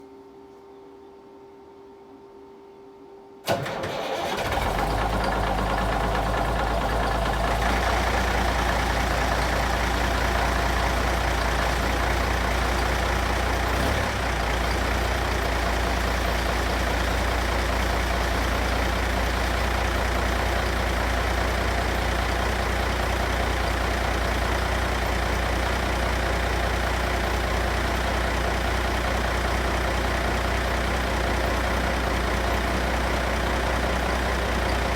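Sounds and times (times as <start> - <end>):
diesel engine starting and idling: 3.4 - 34.9.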